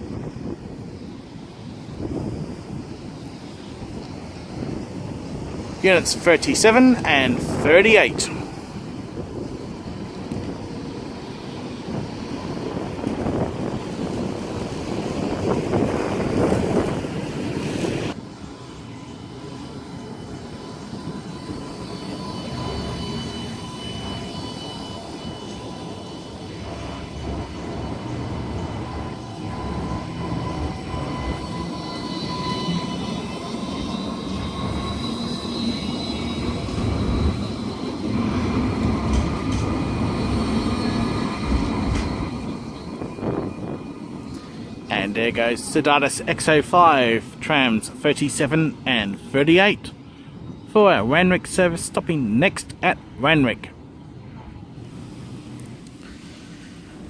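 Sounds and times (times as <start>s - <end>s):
tram electrical hum: 0.0s - 57.0s.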